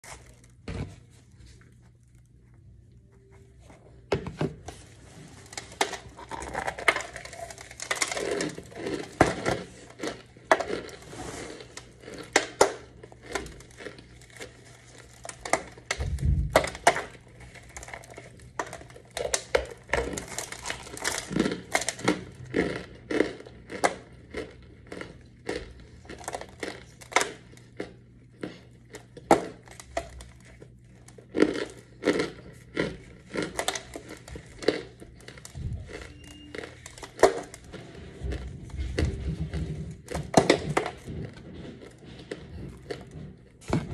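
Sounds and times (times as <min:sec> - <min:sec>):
chewing: 0:04.9 - 0:43.9
powder brick cracking and crumbling: 0:05.3 - 0:43.9
crunchy bites: 0:05.5 - 0:43.9.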